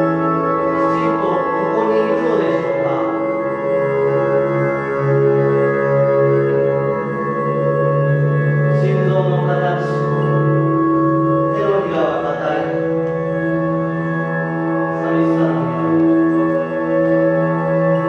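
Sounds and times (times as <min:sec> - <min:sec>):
ambient keyboard drone: 0:00.0 - 0:18.0.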